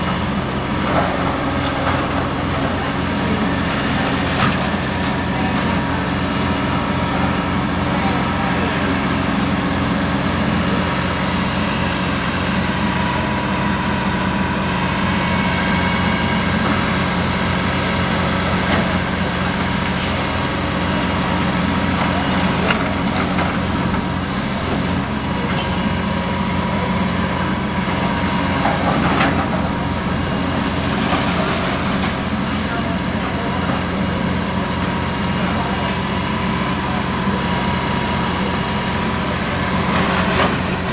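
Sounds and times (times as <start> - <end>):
excavator diesel engines running: 0.0 - 40.9.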